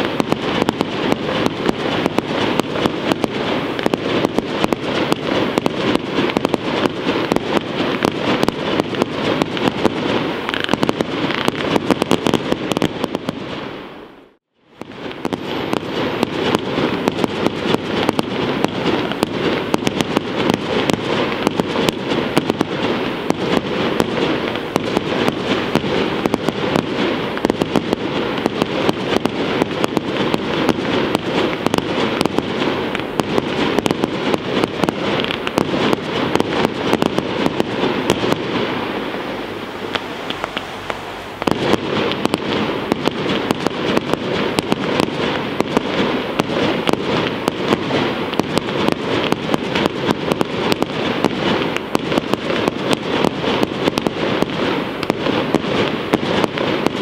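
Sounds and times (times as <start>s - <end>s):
sharp pops and crackles: 0.0s - 13.7s, 14.3s - 39.2s, 39.9s - 57.0s
firework shell bursts: 0.0s - 13.8s, 14.8s - 57.0s.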